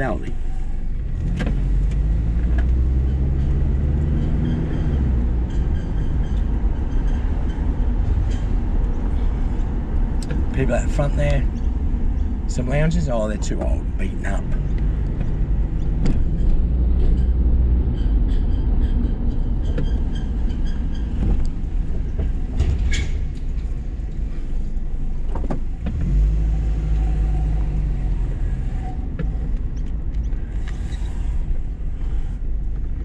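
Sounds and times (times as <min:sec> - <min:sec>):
car engine: 0:00.0 - 0:33.0.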